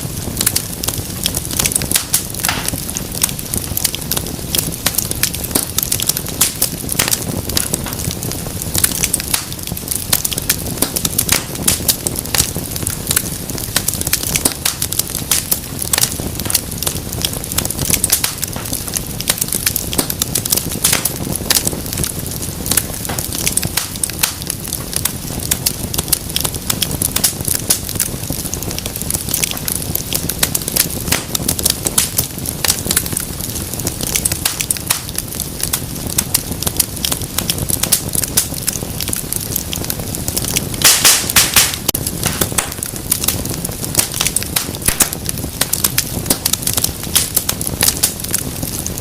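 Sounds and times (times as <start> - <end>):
low flame rumble: 0.0 - 49.0
wood fire crackling and popping: 0.0 - 49.0.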